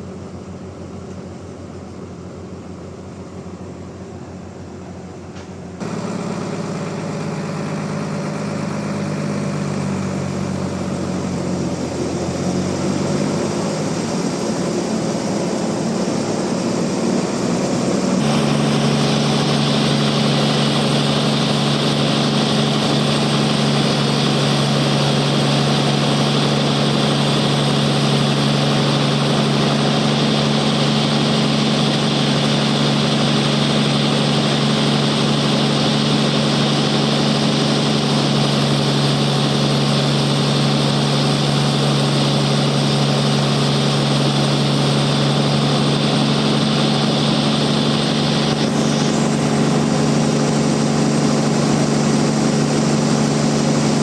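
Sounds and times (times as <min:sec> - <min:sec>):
sawmill machinery humming: 0:01.8 - 0:54.0.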